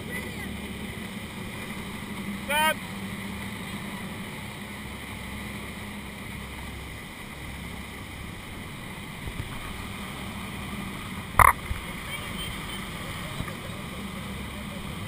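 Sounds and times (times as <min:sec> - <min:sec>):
motor boat engine humming: 0:00.0 - 0:15.0.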